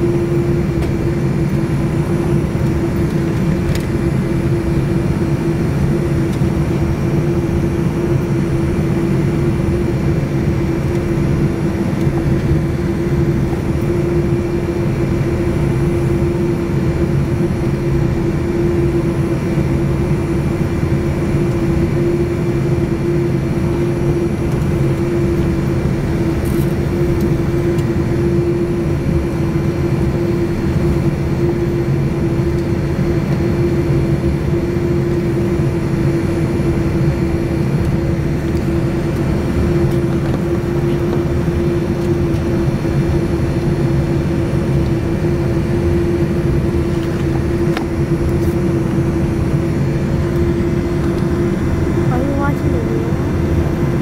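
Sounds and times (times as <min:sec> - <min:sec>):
jet engines humming in cabin: 0:00.0 - 0:54.0.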